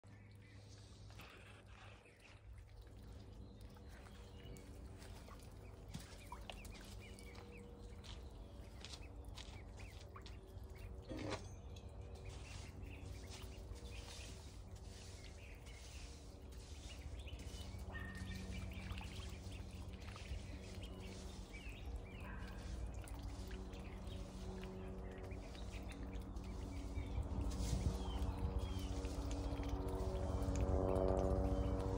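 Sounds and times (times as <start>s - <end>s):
ducks splashing in puddles: 0.0s - 31.9s
low steady hum: 0.0s - 31.9s.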